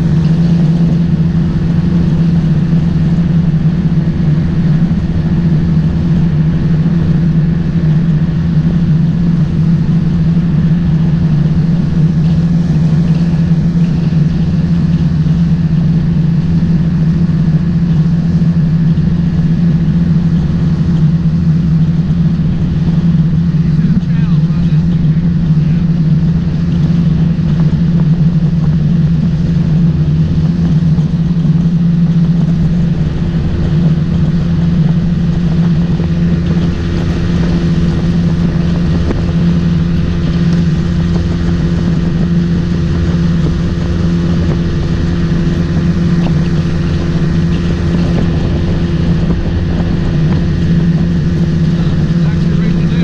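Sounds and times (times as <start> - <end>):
boat motor running: 0.0 - 53.0.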